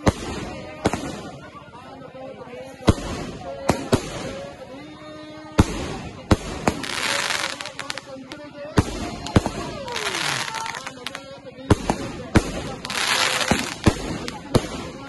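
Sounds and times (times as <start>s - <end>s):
firework crackling: 0.0s - 1.4s, 2.8s - 4.7s, 5.4s - 15.0s.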